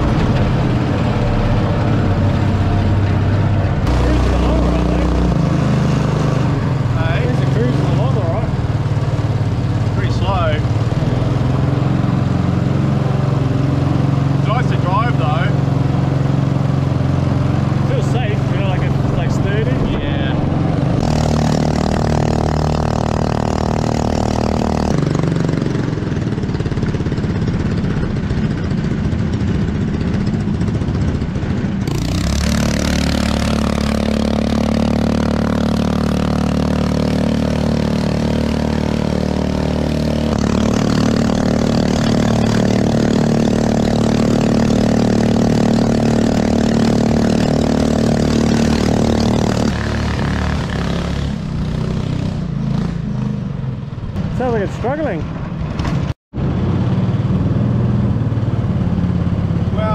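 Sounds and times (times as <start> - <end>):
small engine running loud: 0.0 - 55.2, 56.4 - 59.9.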